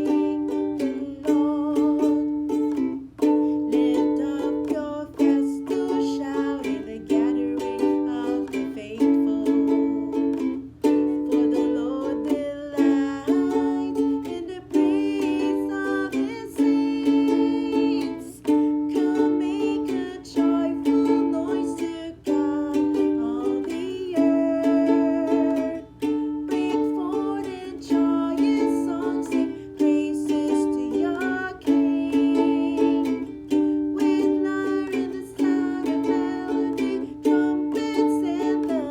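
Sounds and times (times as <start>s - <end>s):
strummed string instrument chords: 0.0s - 38.9s.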